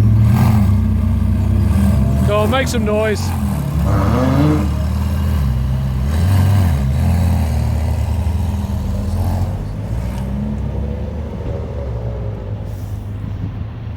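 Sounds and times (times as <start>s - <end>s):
sports car engine revving: 0.0s - 13.7s.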